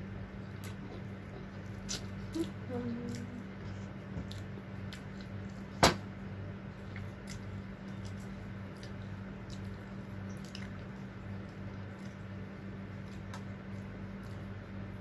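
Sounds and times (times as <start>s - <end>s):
steady low hum: 0.0s - 15.0s
eating clicks and squishes: 0.4s - 5.8s, 6.7s - 15.0s.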